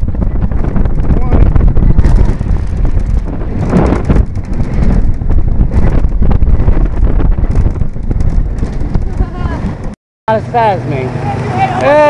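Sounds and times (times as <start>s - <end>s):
wind buffeting microphone: 0.0s - 10.0s
roller coaster rumble: 0.0s - 12.0s
wheels clattering: 0.1s - 10.0s.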